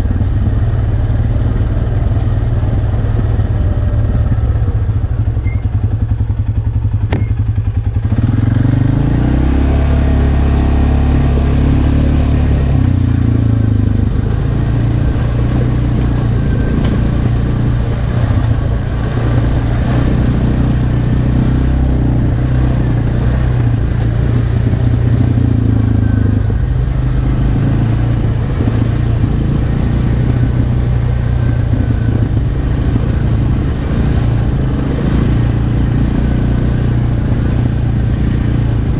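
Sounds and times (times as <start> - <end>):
quad engine running and revving: 0.0 - 38.9.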